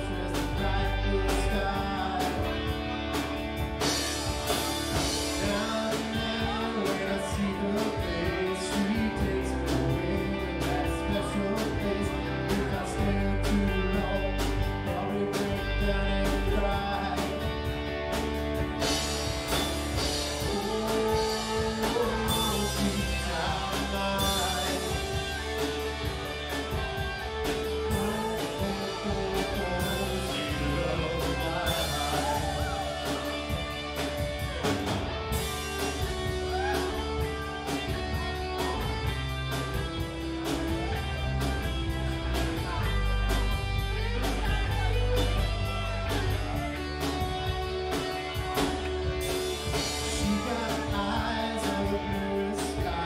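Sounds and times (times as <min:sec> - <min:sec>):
person singing: 0:00.0 - 0:02.9, 0:04.9 - 0:17.7, 0:19.5 - 0:53.0
live rock band playing: 0:00.0 - 0:53.0.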